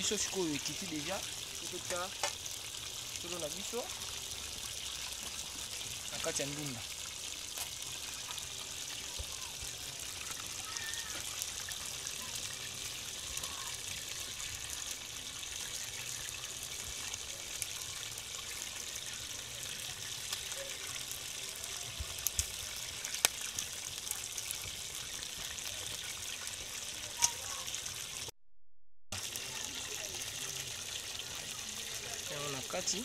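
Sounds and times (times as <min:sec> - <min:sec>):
pot simmering and steaming: 0:00.0 - 0:28.3, 0:29.2 - 0:33.0.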